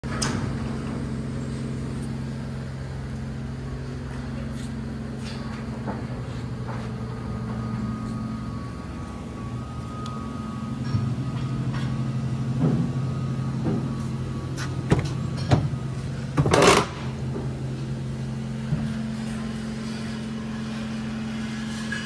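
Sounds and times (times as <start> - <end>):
car engine idling: 0.0 - 21.3.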